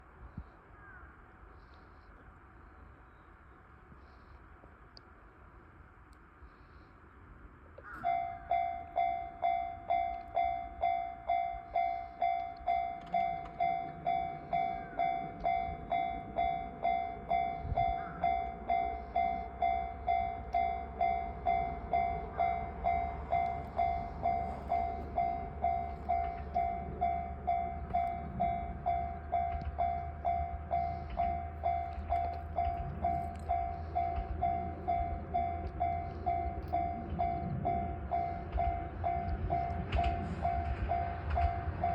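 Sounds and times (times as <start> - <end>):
train rumble: 5.1 - 41.9
level crossing warning bell: 8.0 - 41.9.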